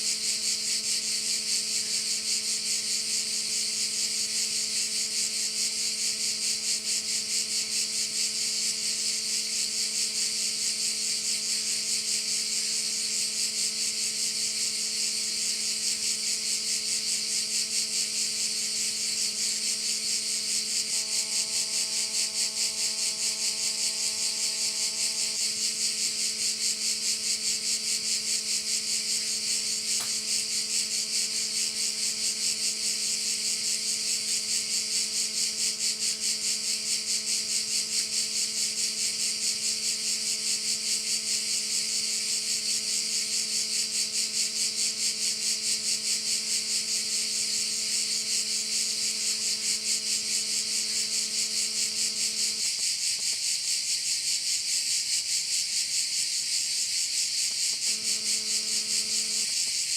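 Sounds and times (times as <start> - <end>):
faint steady hum: 0.0 - 52.8
cicadas buzzing: 0.0 - 59.9.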